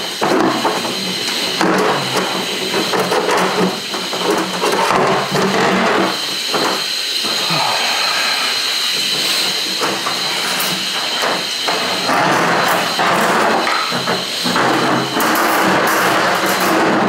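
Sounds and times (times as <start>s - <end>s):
steady high whine: 0.0s - 17.0s.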